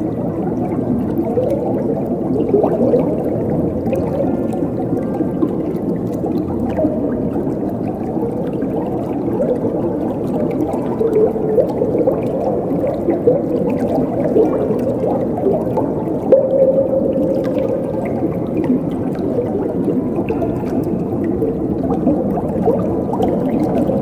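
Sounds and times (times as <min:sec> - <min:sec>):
water gurgling and bubbling: 0:00.0 - 0:24.0.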